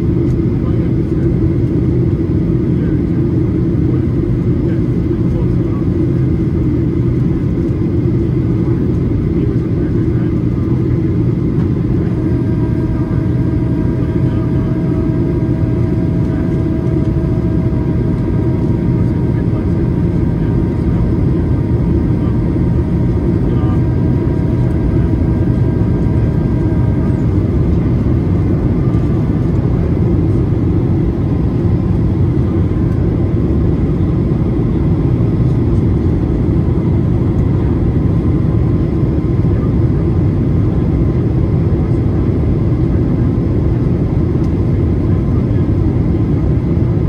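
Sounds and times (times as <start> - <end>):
airplane cabin engine drone: 0.0 - 47.0.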